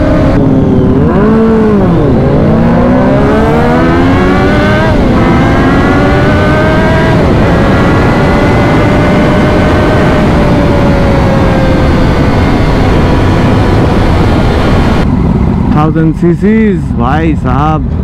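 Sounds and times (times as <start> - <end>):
motorcycle engine accelerating: 0.0 - 16.3.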